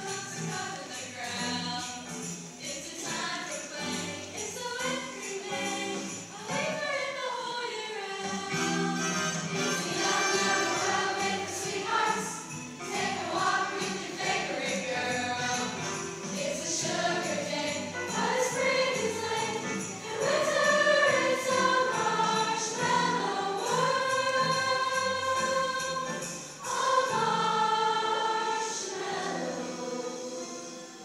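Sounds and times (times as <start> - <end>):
choir singing a holiday song: 0.0 - 31.0.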